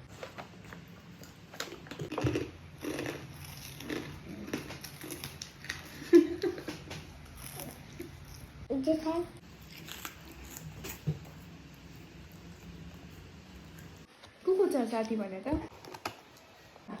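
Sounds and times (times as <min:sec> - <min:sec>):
child chewing and crunching snacks: 0:00.1 - 0:14.0.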